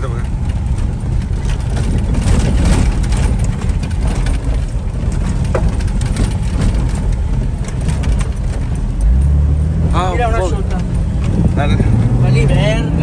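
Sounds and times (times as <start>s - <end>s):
rattles and knocks: 0.0s - 12.4s
vehicle cabin rumble: 0.0s - 13.0s.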